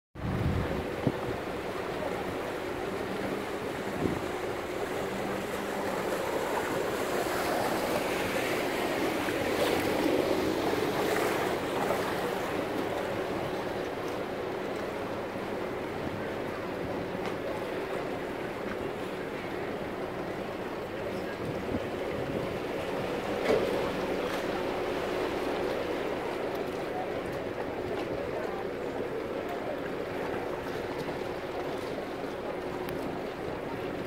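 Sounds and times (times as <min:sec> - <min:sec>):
motorboat engine running: 0:00.2 - 0:34.0
water rushing along hull: 0:00.2 - 0:34.0.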